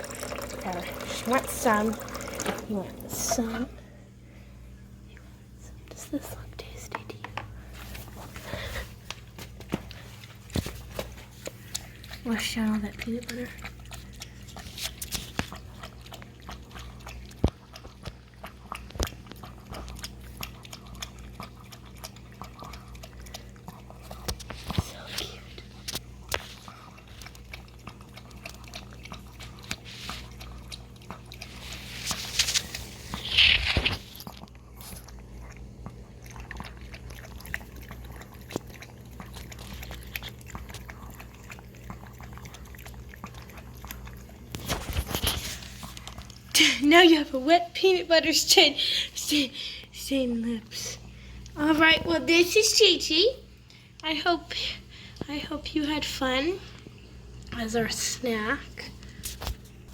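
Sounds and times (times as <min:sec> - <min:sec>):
puppy lapping water: 0:00.0 - 0:03.8, 0:06.9 - 0:59.9
steady low hum: 0:00.0 - 0:59.9.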